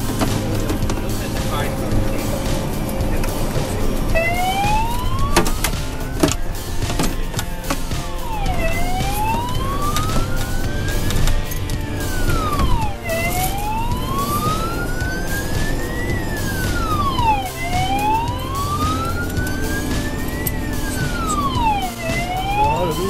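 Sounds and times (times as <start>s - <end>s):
fire engine siren wailing: 0.0s - 7.2s, 7.8s - 23.0s
engine rumble: 0.0s - 23.0s.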